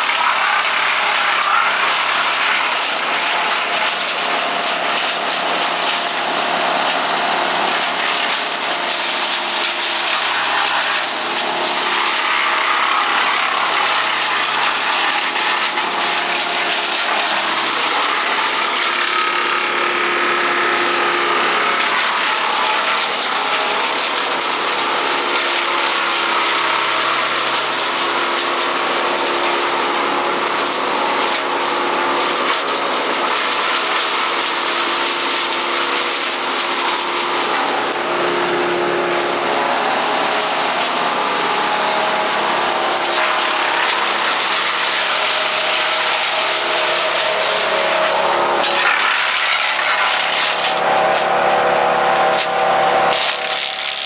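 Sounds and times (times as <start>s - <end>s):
brush chipper running: 0.0s - 54.0s.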